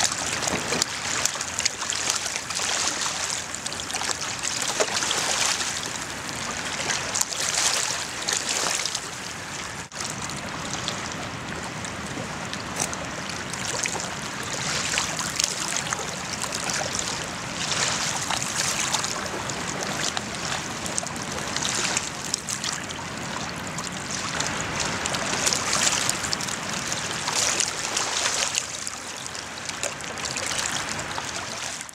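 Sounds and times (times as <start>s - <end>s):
water washing against rocky shore: 0.0s - 31.9s.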